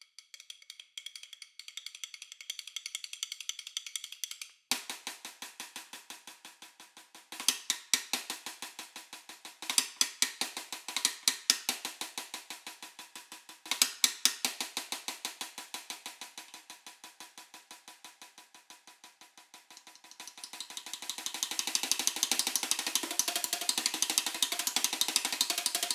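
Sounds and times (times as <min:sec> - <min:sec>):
snare drum played with sticks: 0:00.5 - 0:25.9.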